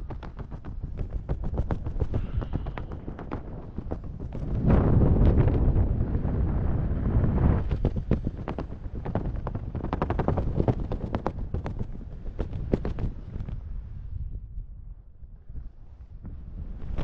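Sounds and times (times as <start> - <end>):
crackling pops and flaps: 0.0 - 14.0, 15.5 - 17.0
wind buffeting microphone: 0.0 - 17.0.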